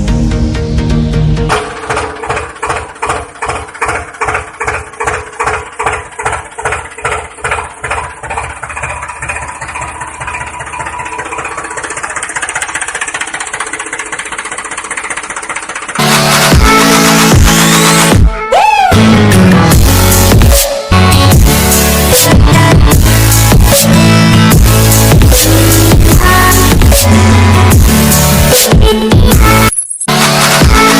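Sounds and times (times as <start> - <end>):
engine chugging: 0.0 - 30.9.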